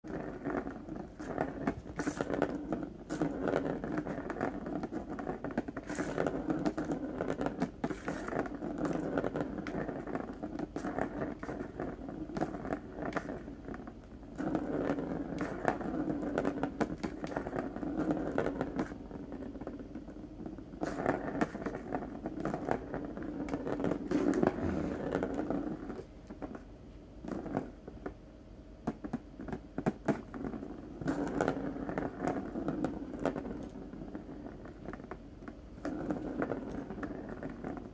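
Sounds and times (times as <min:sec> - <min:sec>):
plastic ball rolling on plastic track: 0:00.1 - 0:26.6, 0:27.2 - 0:28.2, 0:28.8 - 0:37.9.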